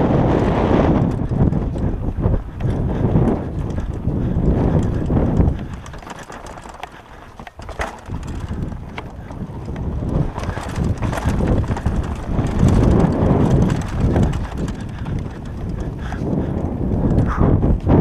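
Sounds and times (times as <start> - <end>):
mountain bike rattling over stones: 0.0 - 17.3.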